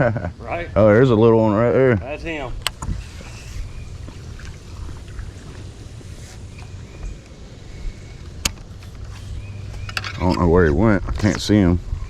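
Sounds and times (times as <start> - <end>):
boat engine rumble: 0.0 - 12.0
wind on microphone: 2.3 - 12.0.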